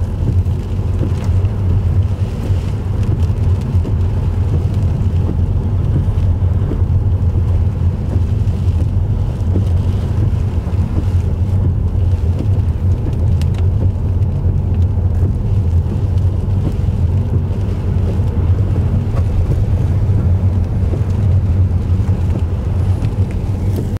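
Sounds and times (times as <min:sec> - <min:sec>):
car road noise: 0:00.0 - 0:24.0
wind buffeting microphone: 0:00.0 - 0:24.0.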